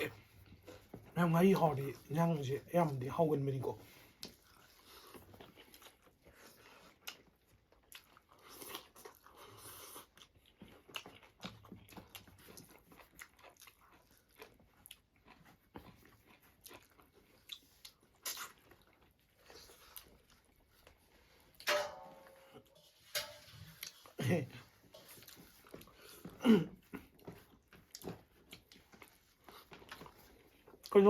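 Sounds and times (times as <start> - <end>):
chewing and crunching food: 0.0 - 31.0.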